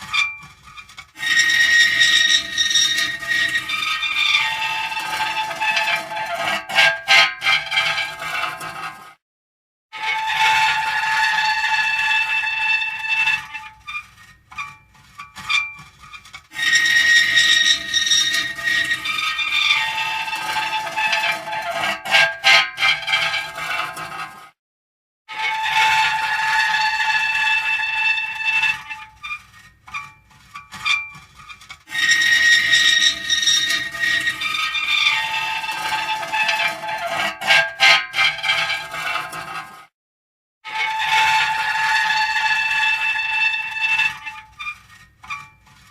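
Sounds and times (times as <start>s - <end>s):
metal creaking: 0.0s - 9.0s, 10.0s - 24.4s, 25.4s - 39.8s, 40.7s - 45.9s
short broken metal squeaks: 0.0s - 9.0s, 12.2s - 24.3s, 27.1s - 39.8s, 40.8s - 45.9s.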